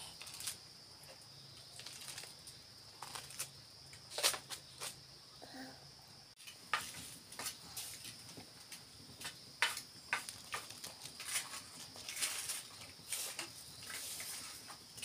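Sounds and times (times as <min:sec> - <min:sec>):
wood fire crackling: 0:00.0 - 0:05.1, 0:06.4 - 0:15.0.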